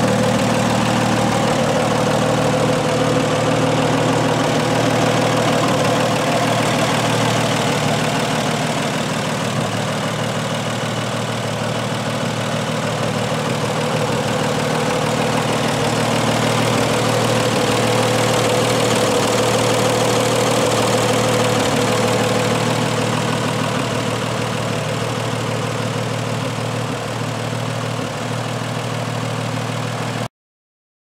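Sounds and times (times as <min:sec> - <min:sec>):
truck engine idling: 0:00.0 - 0:30.3.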